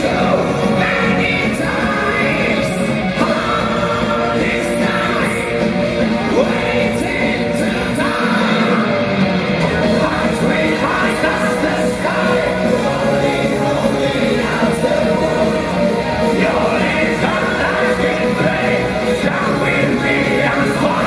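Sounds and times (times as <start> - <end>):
bass: 0.0 - 21.0
distorted electric guitar: 0.0 - 21.0
drums: 0.0 - 21.0
keyboards: 0.0 - 21.0
vocalist singing: 0.0 - 21.0.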